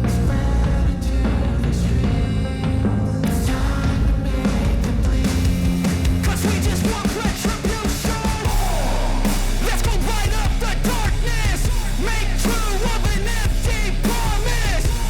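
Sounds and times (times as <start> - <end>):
rock music with bass and drums: 0.0 - 15.0.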